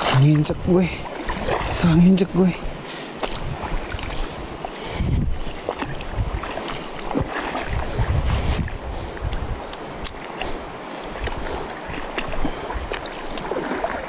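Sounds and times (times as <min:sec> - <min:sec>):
wading steps sloshing in water: 0:00.0 - 0:02.1, 0:02.8 - 0:04.8, 0:05.4 - 0:14.0
wind rumble on microphone: 0:00.0 - 0:14.0.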